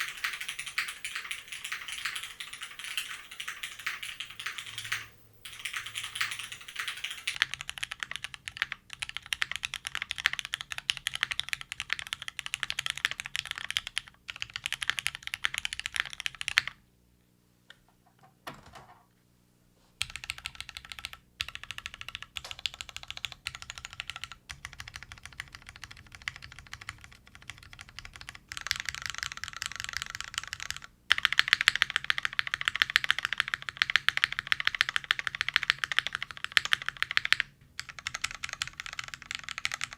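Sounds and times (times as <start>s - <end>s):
fast mechanical keyboard typing: 0.0s - 16.8s, 20.0s - 39.9s.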